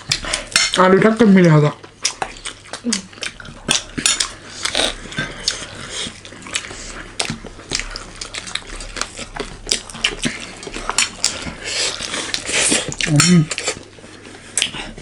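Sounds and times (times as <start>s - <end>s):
person chewing: 1.7s - 15.0s.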